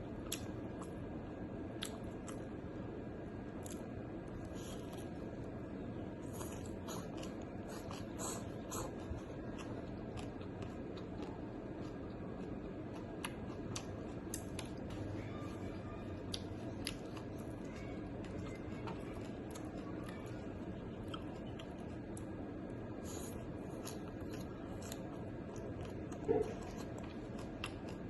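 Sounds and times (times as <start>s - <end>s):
low background hum: 0.0s - 28.0s
food being chewed: 1.7s - 2.5s, 3.5s - 5.5s, 6.1s - 28.0s.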